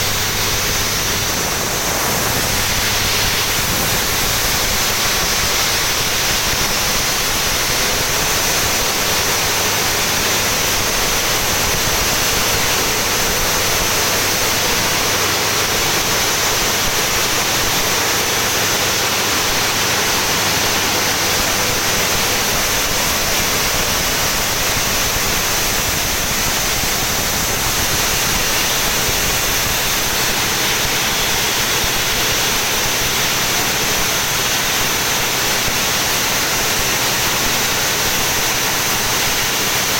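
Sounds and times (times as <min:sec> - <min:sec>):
steam turbine hissing: 0:00.0 - 0:39.9.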